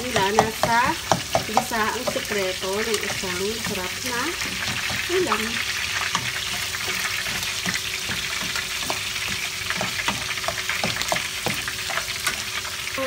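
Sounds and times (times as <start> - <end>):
spatula scraping pan: 0.0 - 12.8
vegetables sizzling in oil: 0.0 - 13.0.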